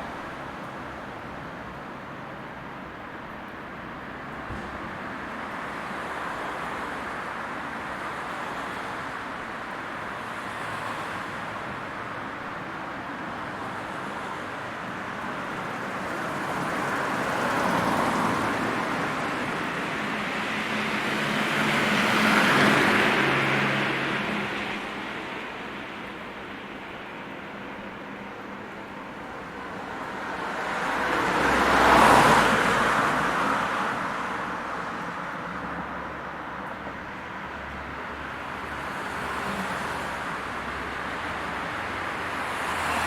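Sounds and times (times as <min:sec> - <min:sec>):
road traffic: 0:00.0 - 0:43.0.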